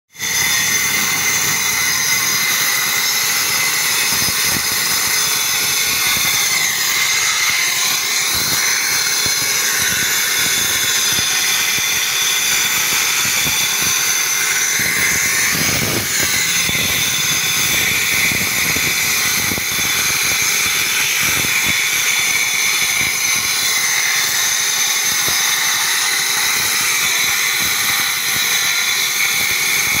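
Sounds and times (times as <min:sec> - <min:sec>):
angle grinders cutting concrete: 0:00.1 - 0:30.0.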